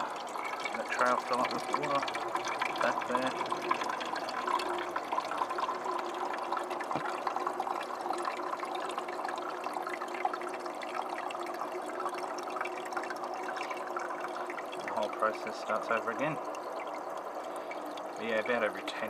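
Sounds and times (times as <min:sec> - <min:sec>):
ice maker hum: 0:00.0 - 0:19.0.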